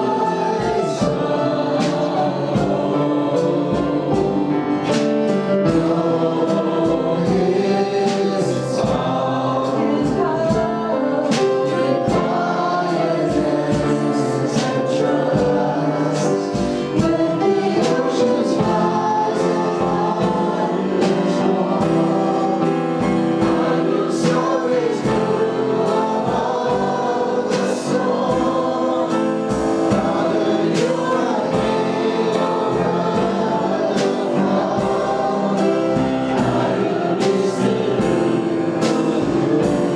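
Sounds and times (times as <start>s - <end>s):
choir and congregation singing: 0.0s - 39.9s
instrumental accompaniment with beat: 0.0s - 39.9s.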